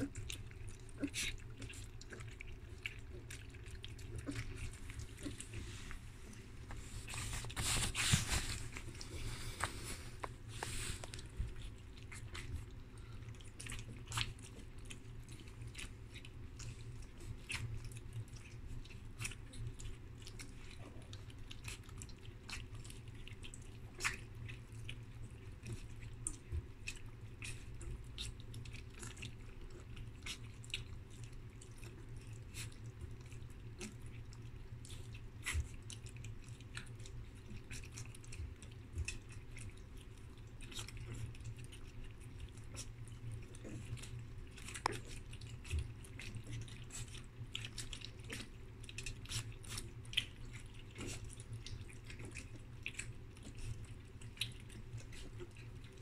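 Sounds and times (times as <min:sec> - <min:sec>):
low steady hum: 0:00.0 - 0:56.0
puppies lapping milk: 0:00.0 - 0:56.0.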